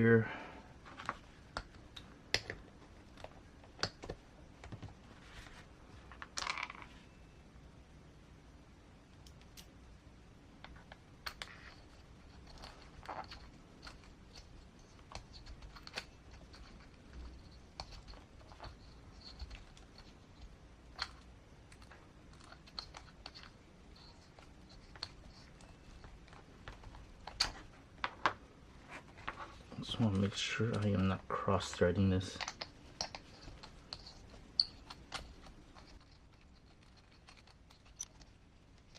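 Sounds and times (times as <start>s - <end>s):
small parts clicking and tapping: 0.9s - 5.0s, 9.1s - 9.8s, 10.6s - 28.4s, 29.2s - 38.9s.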